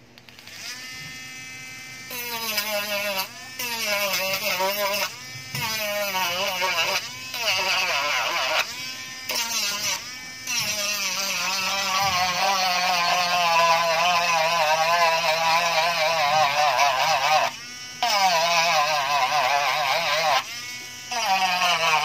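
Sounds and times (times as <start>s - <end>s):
rotary tool grinding: 0.2s - 22.0s.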